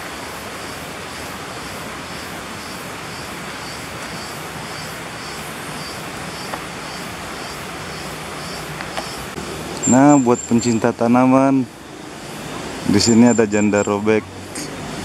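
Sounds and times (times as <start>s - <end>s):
vehicle wind and road noise: 0.0s - 15.0s.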